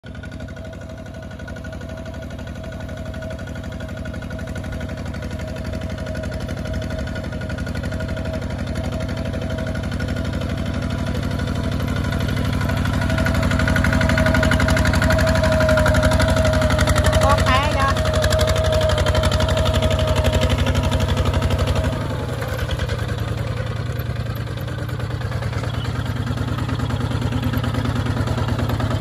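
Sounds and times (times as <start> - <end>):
diesel tractor engine chugging: 0.0 - 29.0
steady engine whine: 0.1 - 29.0.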